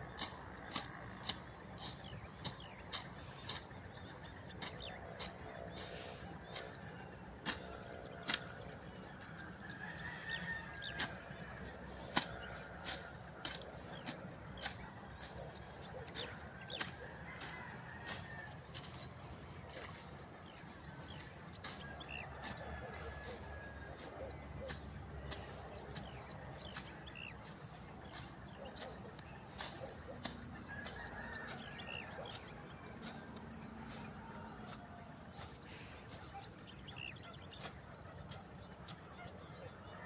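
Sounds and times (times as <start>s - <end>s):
sickle slicing grass: 0.0s - 39.9s.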